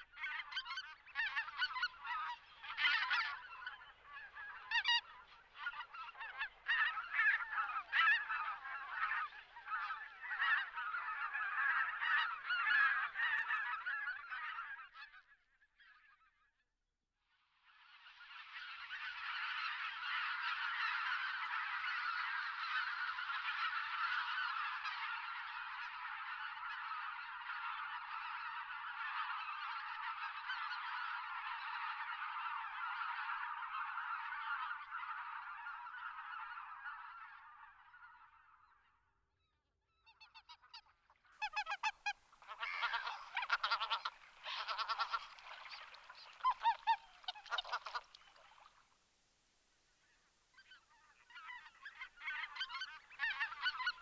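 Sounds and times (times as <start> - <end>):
nearer geese calls: 0.0 - 16.3, 18.0 - 39.0, 39.9 - 49.0, 50.0 - 54.0
flock of geese calling: 0.0 - 16.4, 17.7 - 39.2, 39.9 - 49.0, 50.0 - 54.0.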